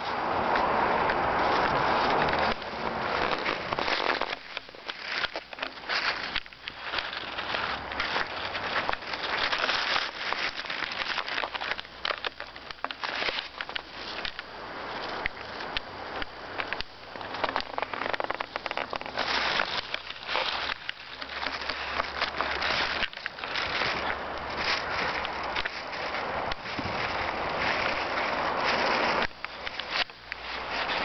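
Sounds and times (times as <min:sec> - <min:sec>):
snow crunching underfoot: 0:00.0 - 0:31.0.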